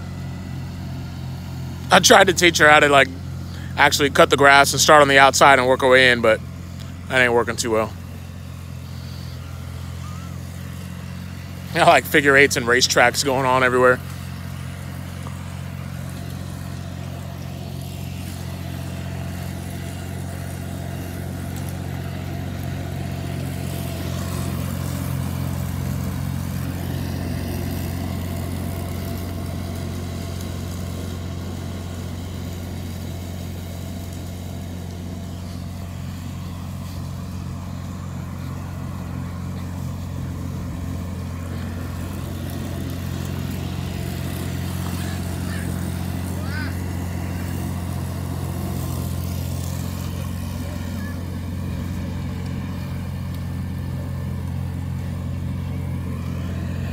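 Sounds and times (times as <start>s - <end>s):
tractor engine mowing grass: 0.0s - 56.9s.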